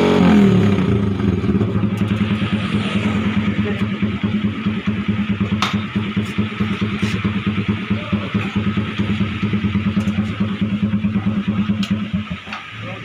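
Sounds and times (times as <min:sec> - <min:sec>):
sharp exhaust cracks: 0:00.0 - 0:12.7
motorcycle engine idling: 0:00.2 - 0:13.0.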